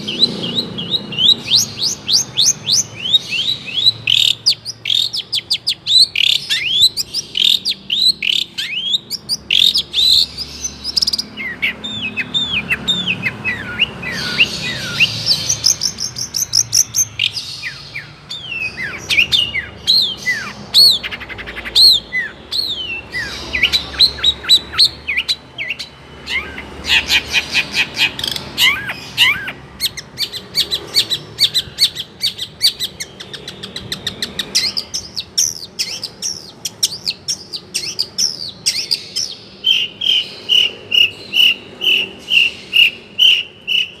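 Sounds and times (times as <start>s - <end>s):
bird singing varied song: 0.0s - 44.0s.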